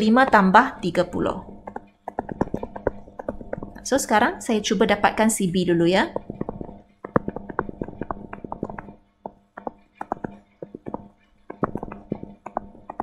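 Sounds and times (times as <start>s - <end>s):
stylus tapping on tablet screen: 0.0s - 4.1s, 6.0s - 13.0s
faint steady hum: 0.0s - 13.0s.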